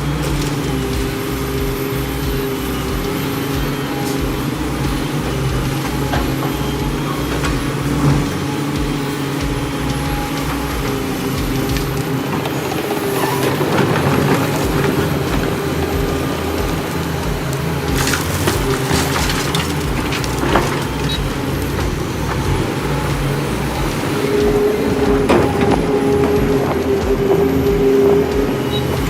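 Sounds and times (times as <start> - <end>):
diesel machine running under load: 0.0 - 29.0
material crushing and cracking: 0.0 - 29.0.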